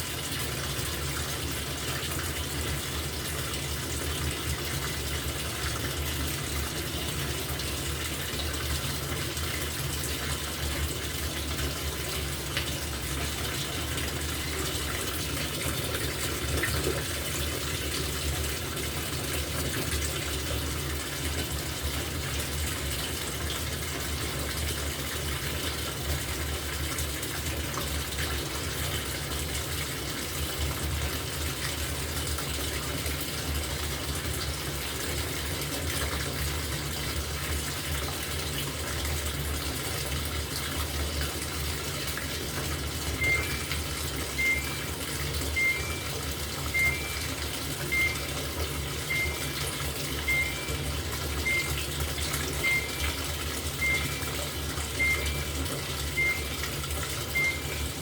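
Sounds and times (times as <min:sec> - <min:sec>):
water running into washing machine: 0:00.0 - 0:58.0.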